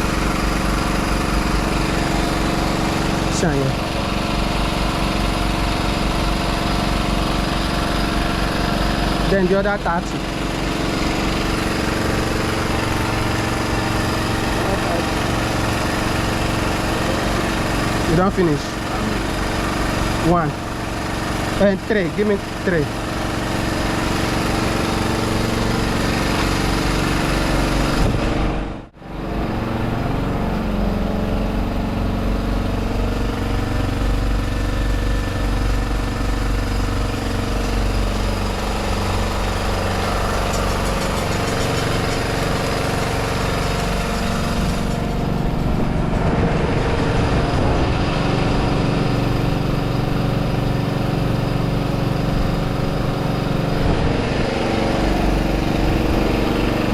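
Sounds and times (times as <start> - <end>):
small engine running: 0.0 - 56.9.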